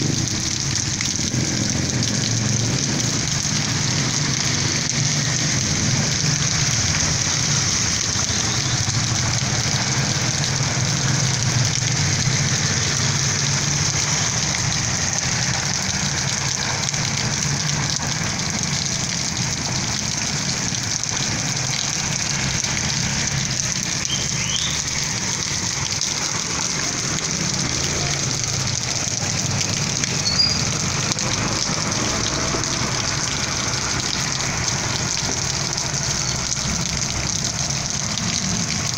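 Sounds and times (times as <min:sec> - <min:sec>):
heavy rain on street: 0:00.0 - 0:38.9.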